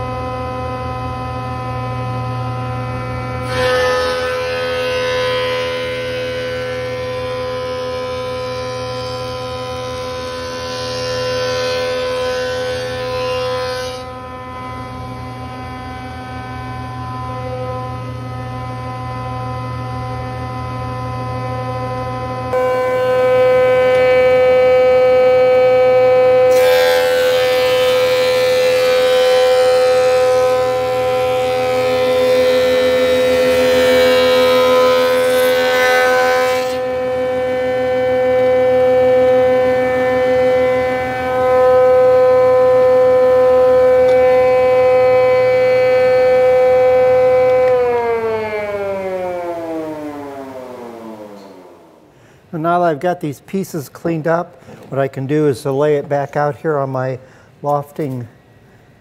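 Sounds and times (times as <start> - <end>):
thickness planer whining: 0.0 - 52.2.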